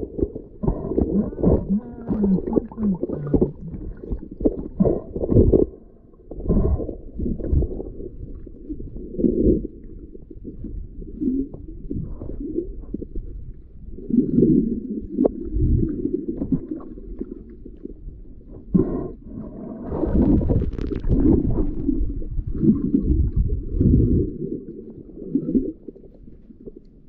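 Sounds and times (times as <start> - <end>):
underwater rumble and sloshing: 0.0 - 27.0.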